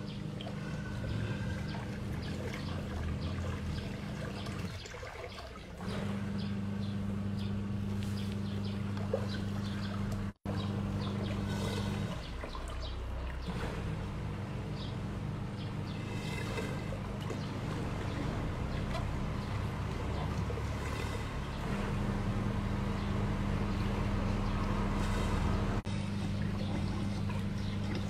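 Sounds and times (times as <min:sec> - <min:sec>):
motor humming: 0:00.0 - 0:05.0, 0:05.6 - 0:28.0
water churning and bubbling: 0:00.0 - 0:28.0.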